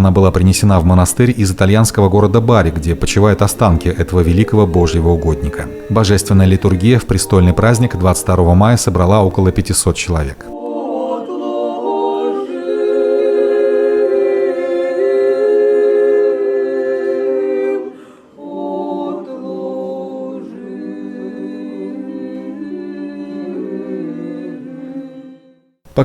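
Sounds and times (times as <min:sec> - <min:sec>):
choir singing unaccompanied chant: 0:00.1 - 0:25.7.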